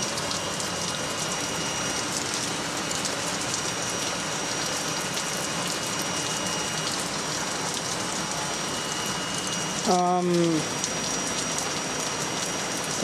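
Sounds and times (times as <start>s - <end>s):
drizzling rain pattering: 0.0s - 13.0s.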